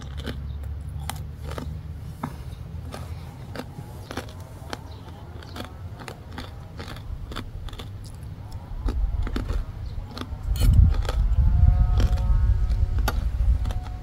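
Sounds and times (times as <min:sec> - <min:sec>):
crunching pork cracklings: 0:00.0 - 0:14.0
low rumble: 0:00.0 - 0:14.0.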